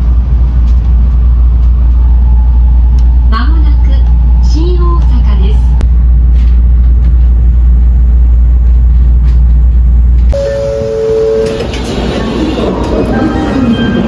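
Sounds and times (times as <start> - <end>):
station and train noise: 0.0 - 14.0
train running low rumble: 0.0 - 14.0.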